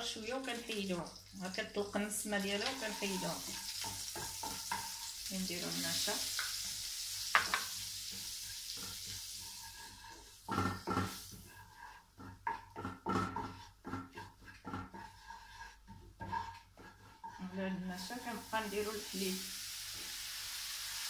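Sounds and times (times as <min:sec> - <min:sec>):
butter and oil sizzling in pan: 0:00.0 - 0:21.0.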